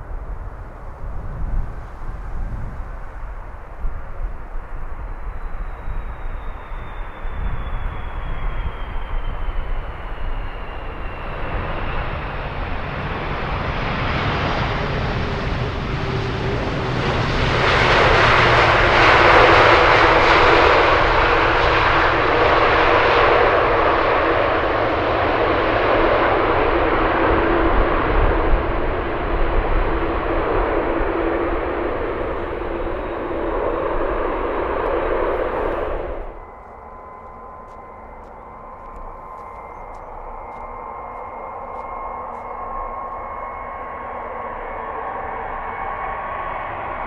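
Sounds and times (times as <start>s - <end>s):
jet engines passing: 0.0s - 47.0s
thin engine whine: 4.7s - 47.0s.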